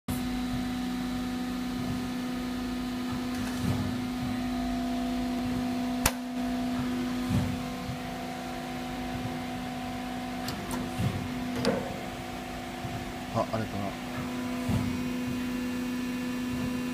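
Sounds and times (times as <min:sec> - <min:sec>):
machine electric hum: 0:00.1 - 0:16.9.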